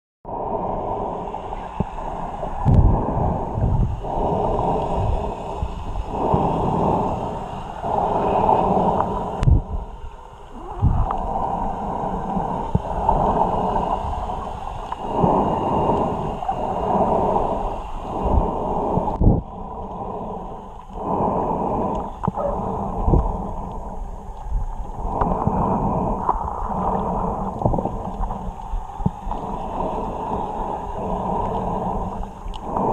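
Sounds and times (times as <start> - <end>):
underwater sloshing and gurgling: 0.3 - 32.9.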